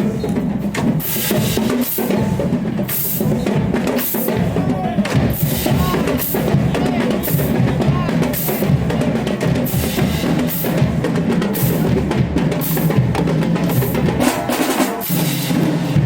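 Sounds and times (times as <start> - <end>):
marching drums: 0.0 - 16.0.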